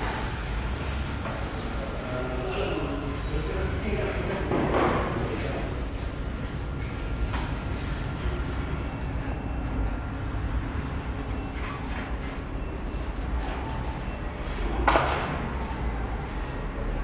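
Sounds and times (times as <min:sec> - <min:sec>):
low workshop rumble: 0:00.0 - 0:17.0.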